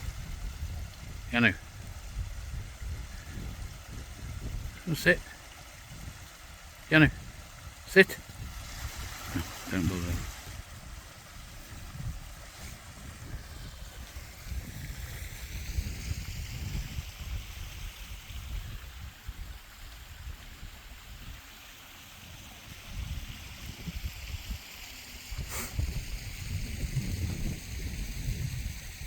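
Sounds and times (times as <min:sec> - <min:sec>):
wind buffeting microphone: 0:00.0 - 0:21.4, 0:22.7 - 0:29.0
steady outdoor hiss: 0:00.0 - 0:29.0.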